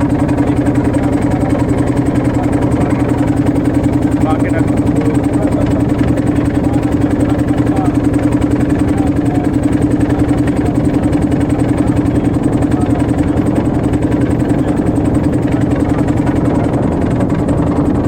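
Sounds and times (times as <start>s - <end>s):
motorboat engine chugging: 0.0s - 18.0s.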